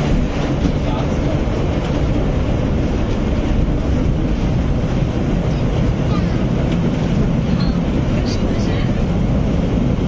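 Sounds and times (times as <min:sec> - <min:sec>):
tram rumbling on rails: 0:00.0 - 0:10.0.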